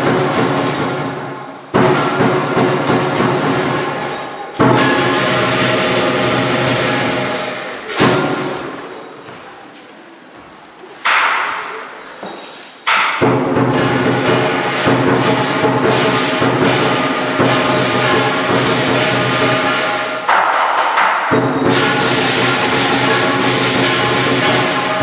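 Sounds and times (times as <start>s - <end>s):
loud cymbal crashes ringing: 0.0s - 9.0s, 13.2s - 25.0s.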